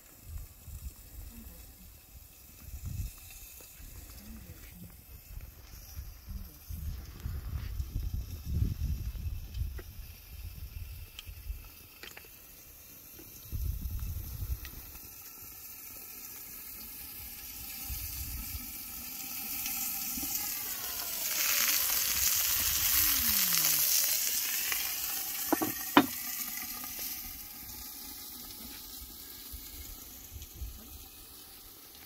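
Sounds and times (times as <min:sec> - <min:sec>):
chicken sizzling on grill plate: 0:00.0 - 0:32.0.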